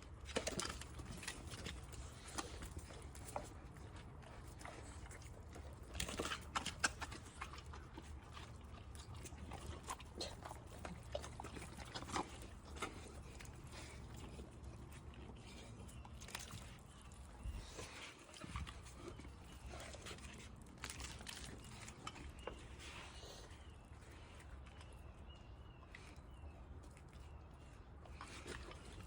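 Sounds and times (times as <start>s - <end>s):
dogs chewing and licking: 0.0s - 29.0s.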